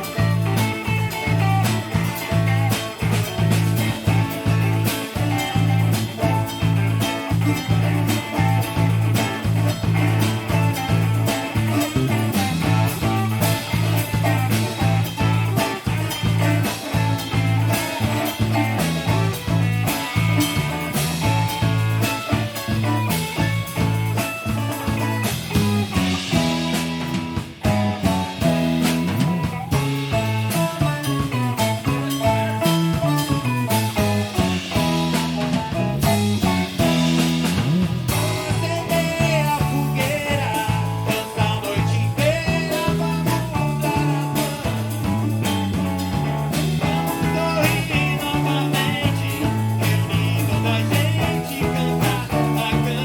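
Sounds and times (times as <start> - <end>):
drum kit beat: 0.0 - 53.0
electric bass: 0.0 - 53.0
plucked guitar: 0.0 - 53.0
viola caipira: 0.0 - 53.0.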